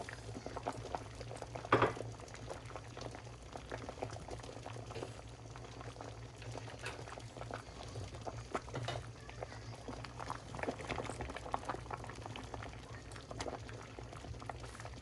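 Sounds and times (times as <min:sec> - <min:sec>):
soup bubbling pops: 0:00.0 - 0:15.0.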